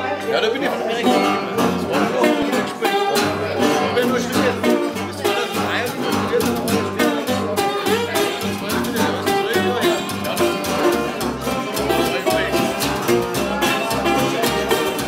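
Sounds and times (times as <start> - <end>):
plucked double bass: 0.0 - 15.0
slide guitar: 0.0 - 15.0
strummed acoustic guitar: 0.0 - 15.0.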